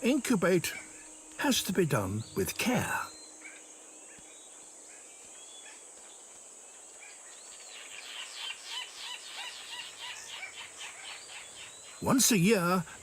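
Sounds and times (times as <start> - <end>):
bird chirping: 0.0 - 13.0
high insect drone: 0.0 - 13.0.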